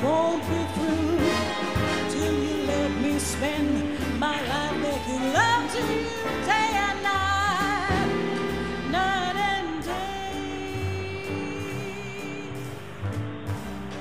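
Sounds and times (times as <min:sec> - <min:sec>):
song with lead melody and bass line: 0:00.0 - 0:14.0.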